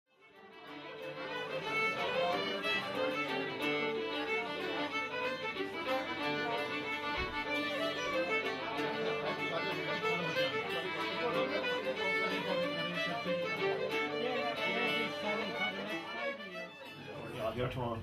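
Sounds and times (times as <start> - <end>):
fast fiddle tune: 0.1 - 17.6.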